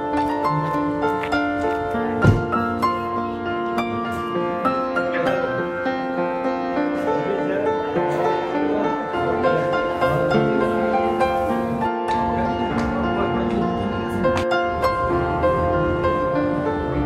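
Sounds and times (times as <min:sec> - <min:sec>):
slow gentle instrumental music: 0:00.0 - 0:17.0.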